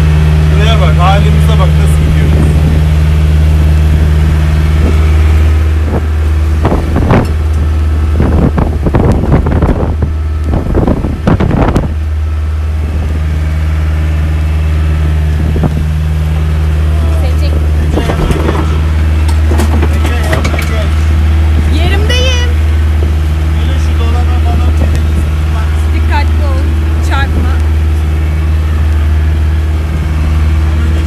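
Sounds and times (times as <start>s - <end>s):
motorboat engine humming: 0.0s - 31.0s.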